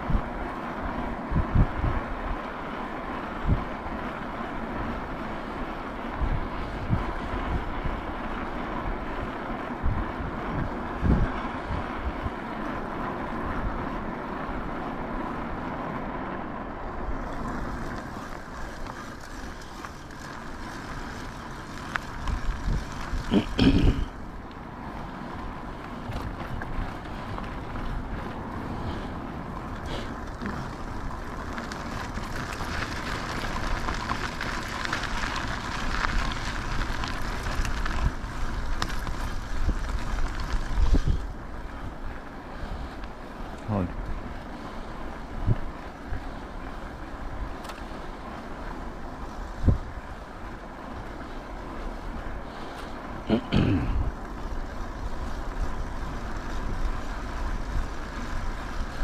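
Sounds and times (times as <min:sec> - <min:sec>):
wind buffeting microphone: 0:00.0 - 0:15.6, 0:16.9 - 0:59.0
tyre and road rumble: 0:00.0 - 0:59.0.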